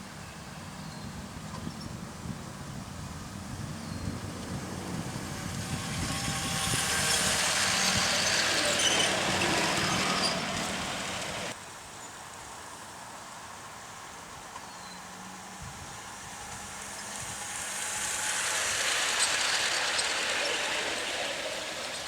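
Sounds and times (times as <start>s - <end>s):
model train running past: 0.0s - 11.6s, 13.9s - 22.0s.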